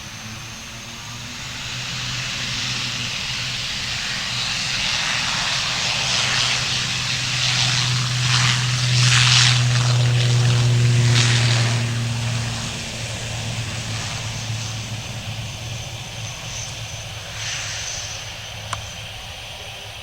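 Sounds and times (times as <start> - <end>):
airliner engines humming: 0.0 - 20.0.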